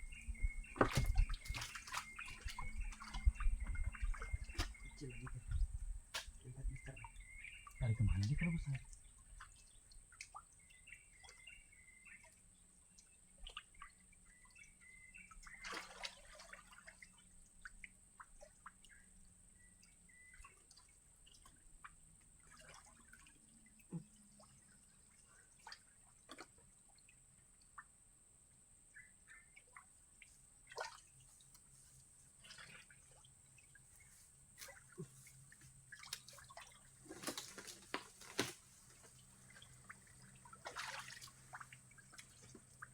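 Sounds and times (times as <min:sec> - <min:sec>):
small splashes and drips of water: 0:00.0 - 0:42.9.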